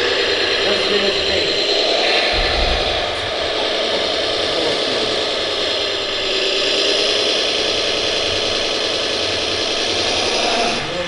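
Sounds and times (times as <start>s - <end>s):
toy truck motor whine: 0.0s - 11.0s.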